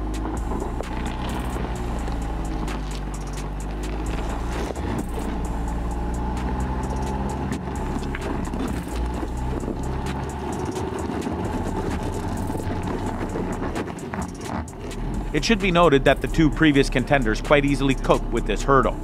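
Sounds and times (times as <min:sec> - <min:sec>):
stones crunching under tyres: 0:00.0 - 0:15.7
suv engine running under load: 0:00.0 - 0:19.0.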